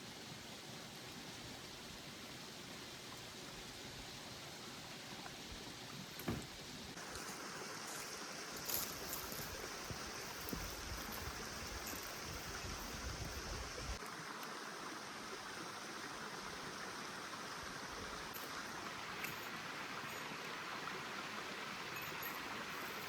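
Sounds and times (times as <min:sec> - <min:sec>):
flowing water rushing: 0:00.0 - 0:23.0.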